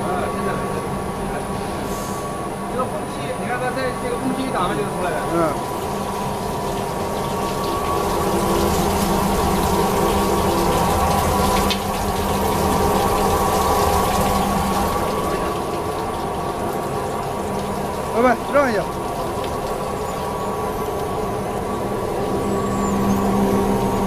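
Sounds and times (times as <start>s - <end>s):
machine humming: 0.0s - 24.0s
water gushing down a drain: 4.4s - 24.0s.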